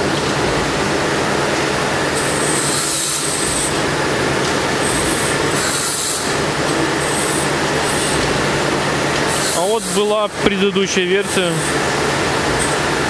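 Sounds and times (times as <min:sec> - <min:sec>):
loud machine running: 0:00.0 - 0:13.0.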